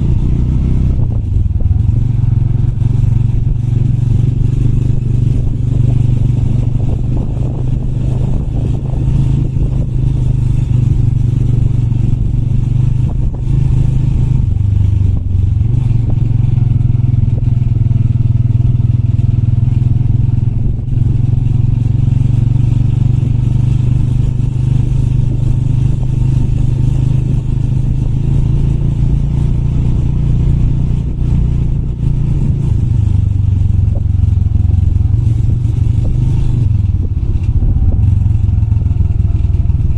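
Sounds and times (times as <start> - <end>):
clatter over rough ground: 0.0 - 39.9
motorcycle engine running: 0.0 - 39.9.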